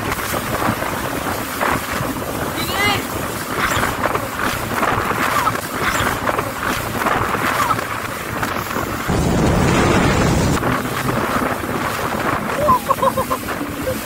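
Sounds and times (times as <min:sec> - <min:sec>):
jet ski running: 0:00.0 - 0:14.0
water splashing against a hull: 0:00.0 - 0:14.0
wind buffeting the microphone: 0:00.0 - 0:14.0.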